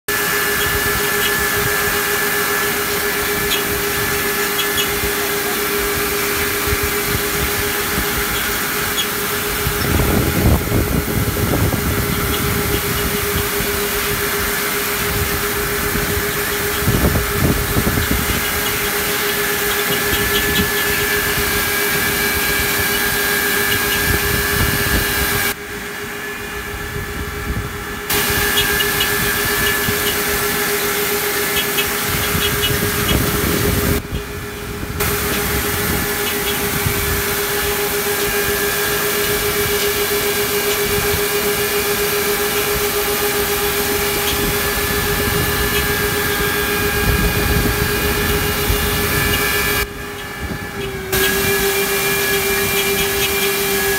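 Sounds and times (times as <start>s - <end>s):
farm machine droning: 0.0s - 53.9s.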